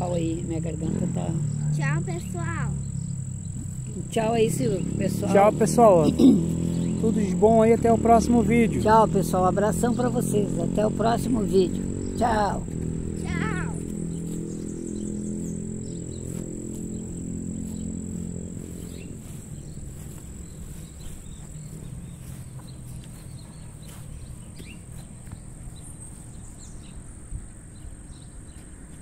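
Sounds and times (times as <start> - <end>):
low rumble: 0.0 - 28.1
high-pitched insect trill: 0.0 - 28.3.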